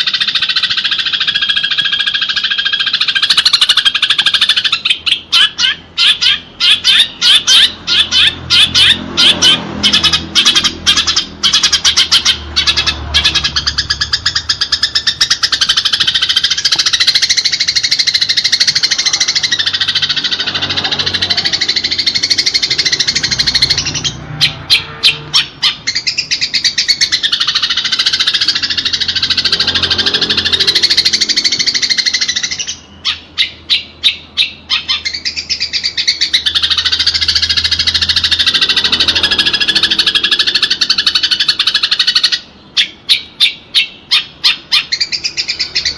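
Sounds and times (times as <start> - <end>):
sparrows chirping: 0.0 - 45.9.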